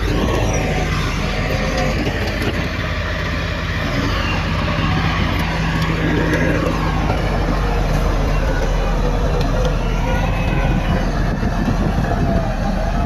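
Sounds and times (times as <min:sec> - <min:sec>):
diesel earthmoving machinery running: 0:00.0 - 0:13.0.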